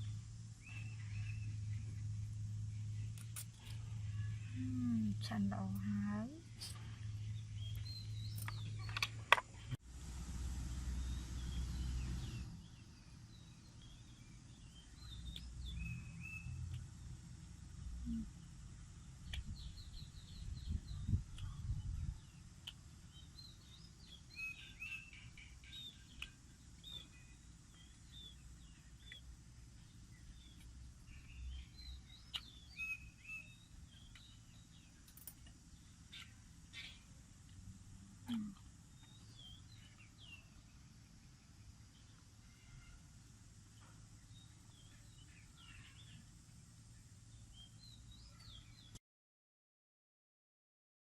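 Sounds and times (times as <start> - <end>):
small birds chirping: 0.0 - 9.8, 10.8 - 49.0.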